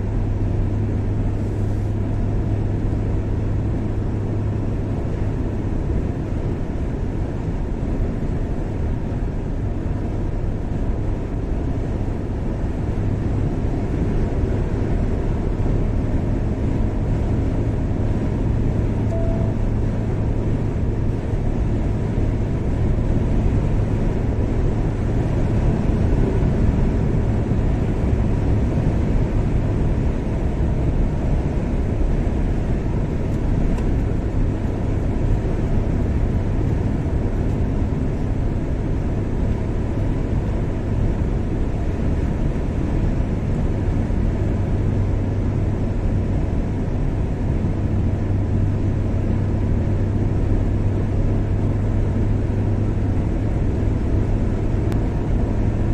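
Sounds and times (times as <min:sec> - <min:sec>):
car engine and tyre noise: 0:00.0 - 0:55.9.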